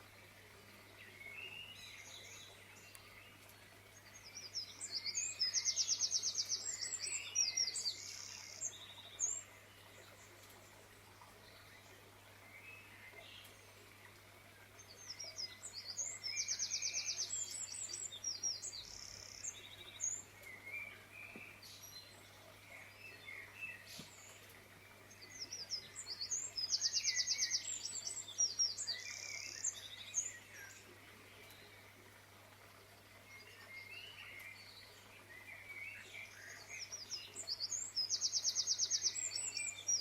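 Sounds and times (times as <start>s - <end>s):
songbird trilling song: 0.9s - 10.2s, 14.8s - 31.8s, 33.2s - 40.0s.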